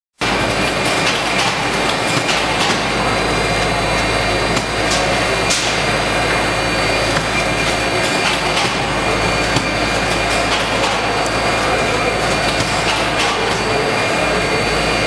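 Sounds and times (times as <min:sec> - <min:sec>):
packaging machine running: 0:00.2 - 0:15.0.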